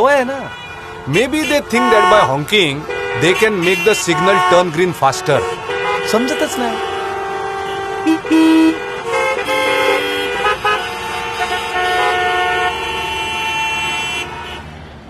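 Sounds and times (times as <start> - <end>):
car horns honking: 0.0 - 14.8.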